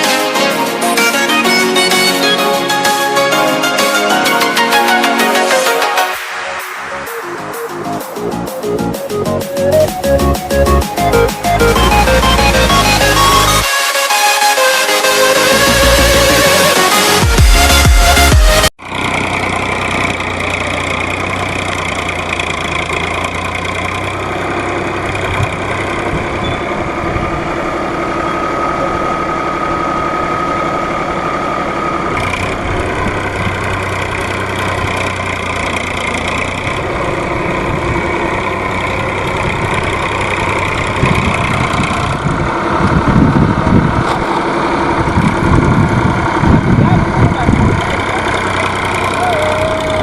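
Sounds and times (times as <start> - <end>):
high motor whine: 5.7 - 50.0.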